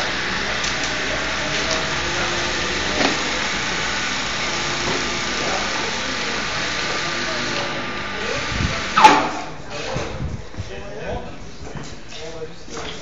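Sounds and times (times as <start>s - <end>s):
faint voices: 0.0s - 13.0s
workshop hall noise: 0.0s - 13.0s.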